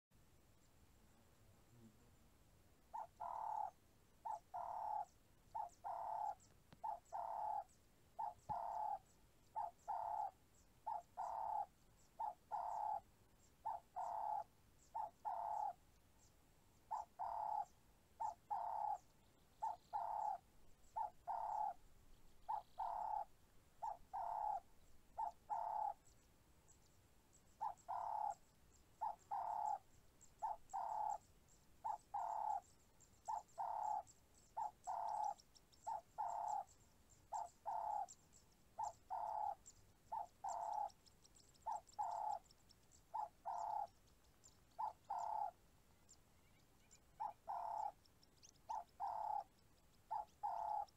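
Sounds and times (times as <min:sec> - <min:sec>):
faint high chirping: 0:02.8 - 0:50.9.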